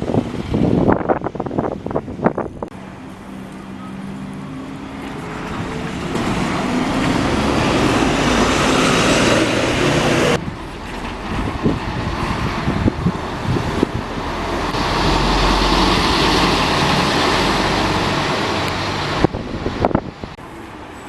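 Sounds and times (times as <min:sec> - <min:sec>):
wind buffeting microphone: 0:00.0 - 0:02.8, 0:04.8 - 0:20.5
vehicle passing close by: 0:02.7 - 0:20.9.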